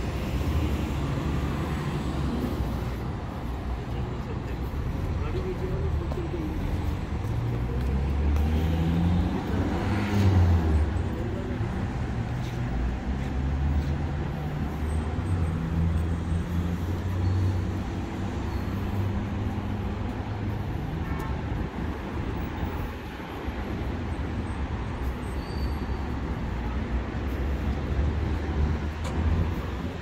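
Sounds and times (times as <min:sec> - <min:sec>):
city road traffic: 0:00.0 - 0:30.0.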